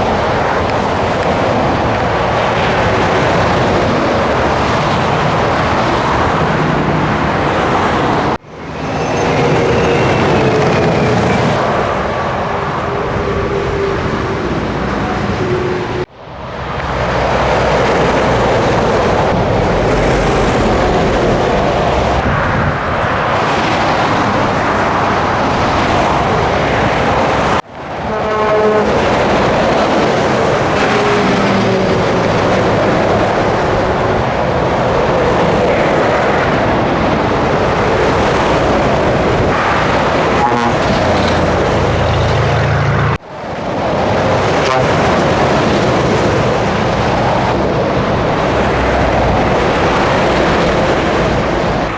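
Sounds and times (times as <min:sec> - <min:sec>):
truck engine and road noise: 0:00.0 - 0:51.9.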